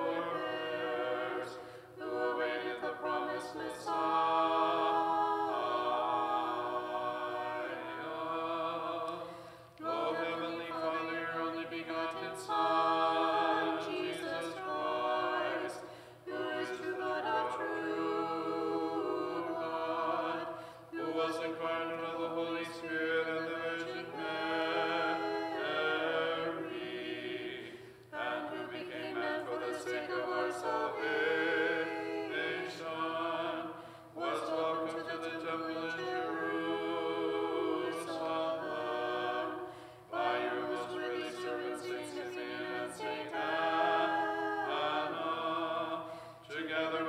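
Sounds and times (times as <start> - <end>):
unaccompanied choral chant: 0.0 - 47.0.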